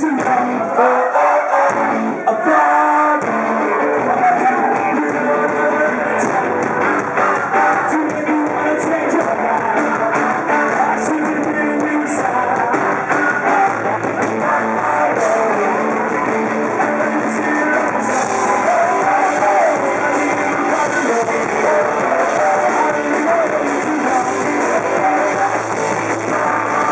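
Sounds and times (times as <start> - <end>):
live rock band playing: 0.0 - 26.9
person singing: 0.0 - 26.9.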